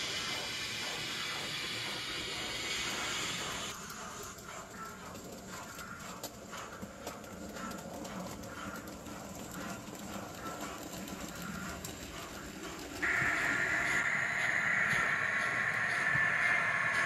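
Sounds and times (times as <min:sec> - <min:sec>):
model train running: 0:00.0 - 0:17.0
rhythmic clicking ticks: 0:00.0 - 0:17.0.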